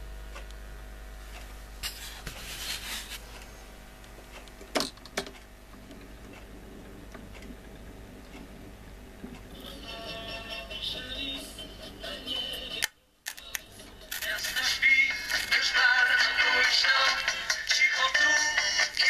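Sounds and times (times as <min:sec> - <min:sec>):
low mains hum: 0:00.0 - 0:19.0.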